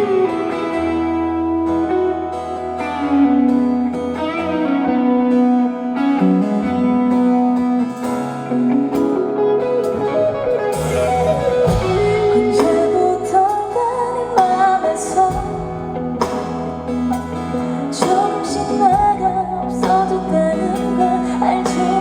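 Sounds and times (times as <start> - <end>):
guitar melody: 0.0 - 22.0
live band playing pop ballad: 0.0 - 22.0.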